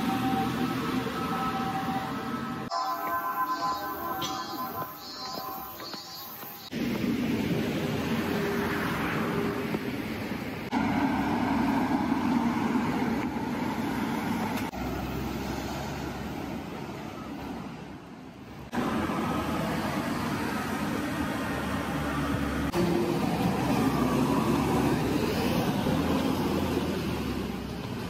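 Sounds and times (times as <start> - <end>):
road traffic: 0.0 - 28.0.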